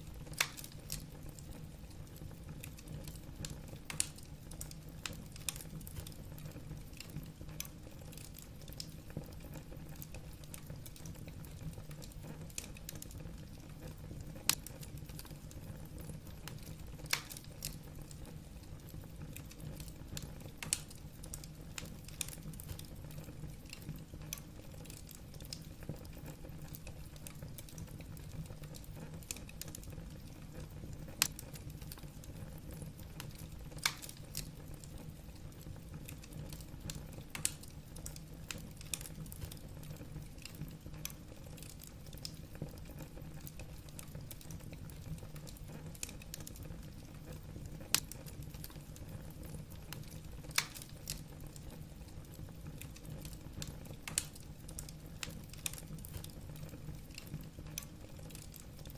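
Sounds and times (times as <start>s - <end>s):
logs crackling and popping: 0.0s - 58.9s
low rumble of flames: 0.0s - 58.9s.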